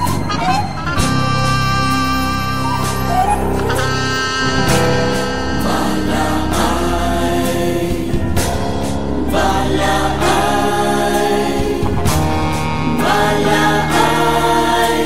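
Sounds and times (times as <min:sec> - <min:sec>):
choir hymn with accompaniment: 0:00.0 - 0:15.0.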